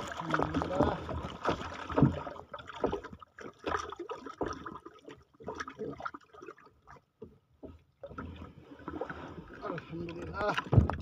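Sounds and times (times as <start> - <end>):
water splashing and gurgling: 0.0 - 11.0.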